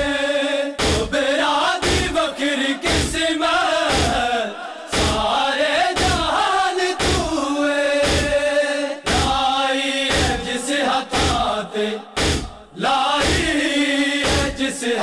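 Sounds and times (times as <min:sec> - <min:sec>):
men chanting a lament: 0:00.0 - 0:15.0
crowd beating chests: 0:00.8 - 0:03.2, 0:03.9 - 0:04.3, 0:04.9 - 0:14.6.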